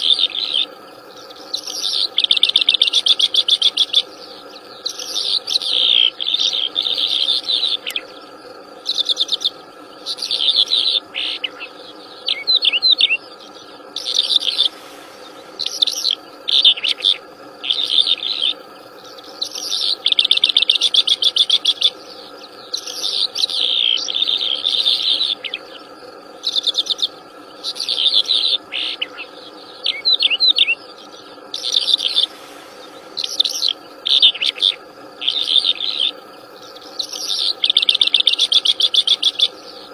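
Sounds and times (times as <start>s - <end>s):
songbird chirping and trilling: 0.0s - 39.9s
steady background drone: 0.0s - 39.9s.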